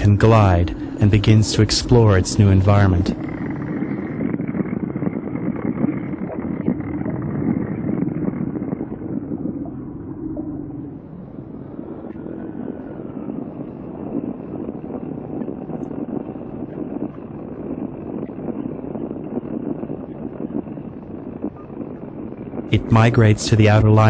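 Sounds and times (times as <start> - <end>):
low noisy ambient drone: 0.0 - 24.0.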